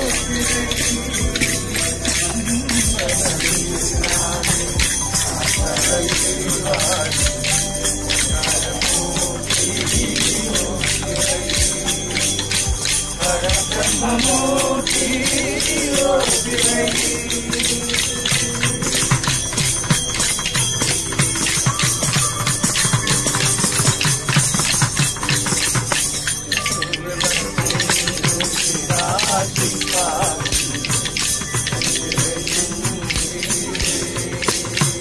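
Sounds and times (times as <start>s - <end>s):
group singing devotional song: 0.0s - 20.3s, 26.9s - 35.0s
frame drum with jingles: 0.0s - 35.0s.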